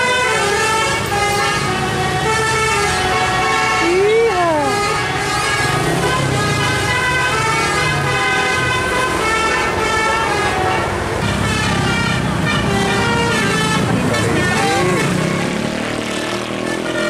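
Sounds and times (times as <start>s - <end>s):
bus musical horn melody: 0.0s - 17.0s
engines and traffic rumble: 0.0s - 17.0s.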